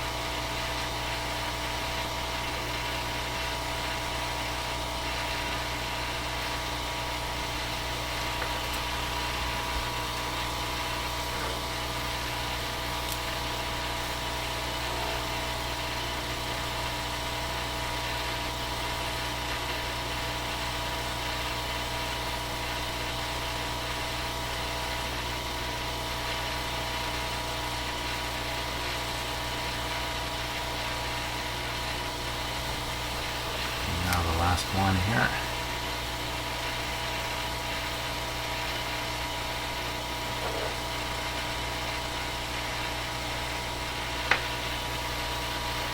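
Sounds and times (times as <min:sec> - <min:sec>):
steady machine hum: 0:00.0 - 0:45.9.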